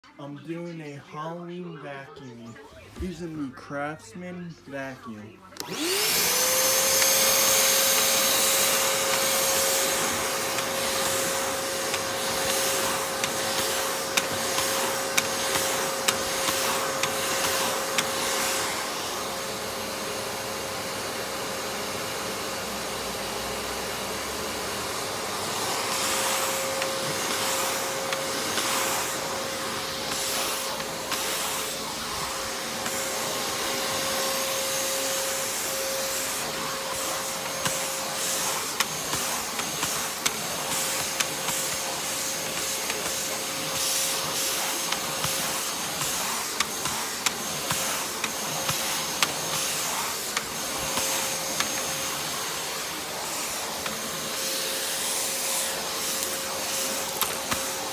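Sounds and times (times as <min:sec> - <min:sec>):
vacuum cleaner motor whine: 0:05.0 - 0:57.9
vacuum airflow hiss: 0:05.8 - 0:20.4, 0:23.5 - 0:57.9.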